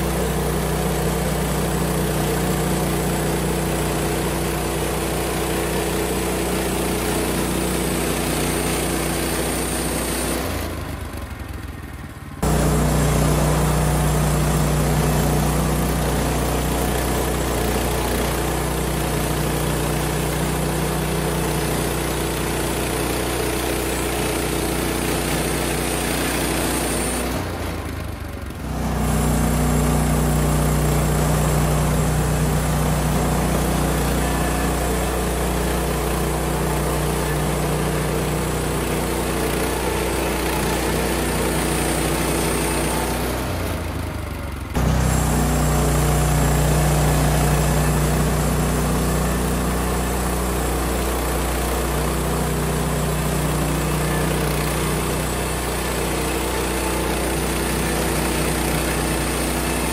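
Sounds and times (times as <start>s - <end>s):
bandsaw mill engine running: 0.0s - 59.9s.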